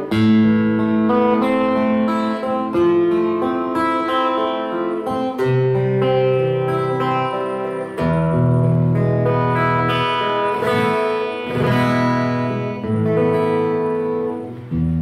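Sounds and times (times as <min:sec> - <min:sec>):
acoustic guitar chords ringing: 0:00.0 - 0:15.0.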